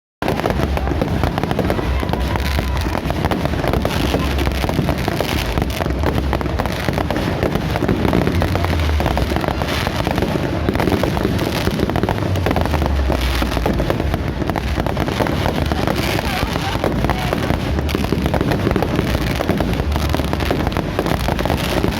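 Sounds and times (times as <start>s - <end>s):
fireworks crackling and popping: 0.2s - 21.9s
low rumble: 0.4s - 21.9s.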